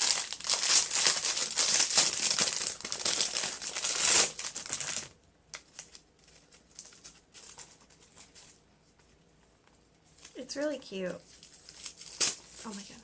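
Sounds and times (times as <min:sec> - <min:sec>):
plastic packaging crinkling: 0:00.0 - 0:08.6, 0:10.1 - 0:13.0.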